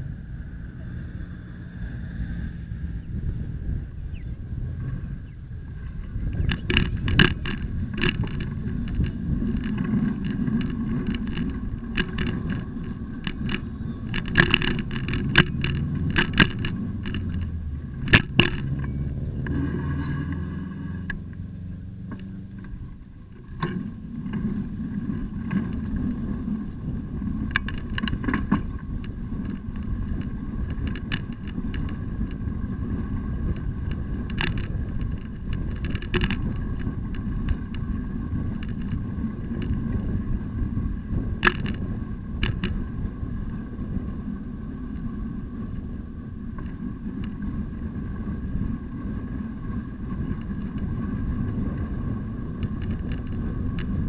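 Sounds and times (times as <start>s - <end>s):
bicycle tyres rumbling on pavement: 0.0s - 54.0s
bike clicks and rattles over bumps: 0.0s - 54.0s.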